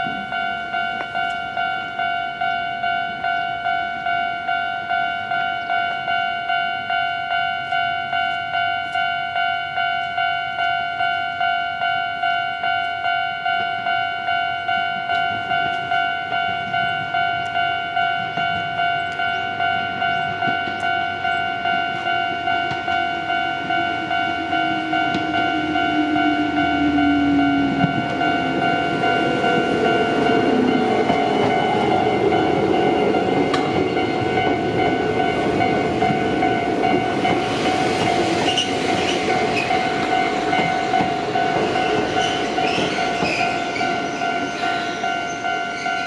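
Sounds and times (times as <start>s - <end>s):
level crossing alarm bell: 0.0s - 46.0s
low train rumble: 0.0s - 46.0s.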